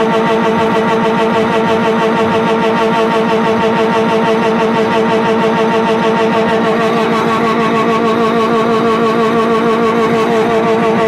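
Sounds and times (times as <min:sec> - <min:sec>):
car engine stuttering on rev limiter: 0:00.0 - 0:11.0.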